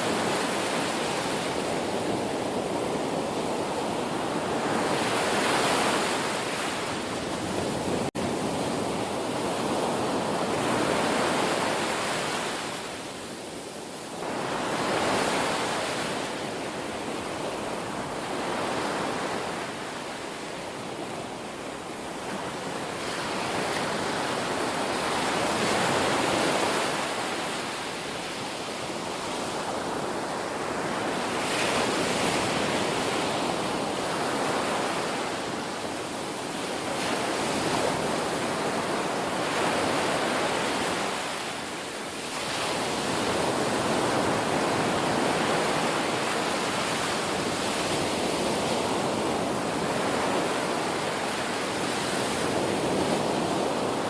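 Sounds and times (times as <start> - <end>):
ocean surf on shore: 0.0 - 54.0.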